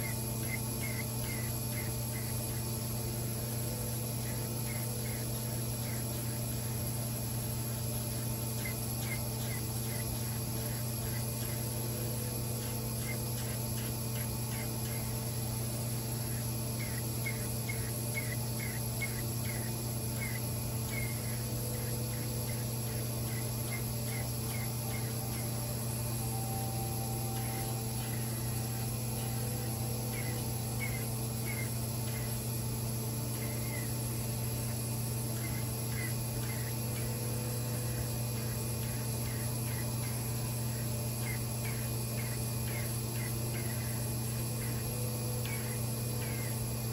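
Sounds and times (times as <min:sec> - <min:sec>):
vacuum pump humming: 0:00.0 - 0:46.9.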